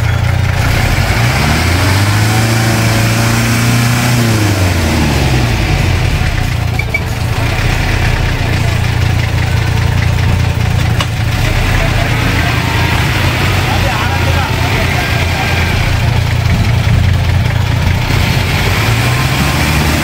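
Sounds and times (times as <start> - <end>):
engine revving in mud: 0.0 - 20.0.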